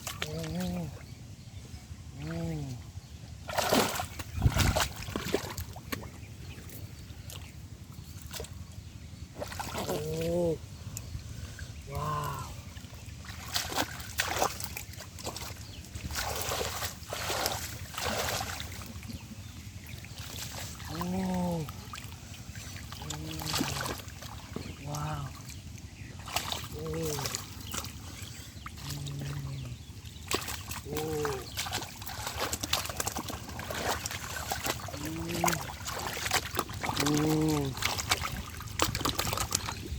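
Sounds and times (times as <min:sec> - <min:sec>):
shallow water splashing: 0:00.0 - 0:39.9.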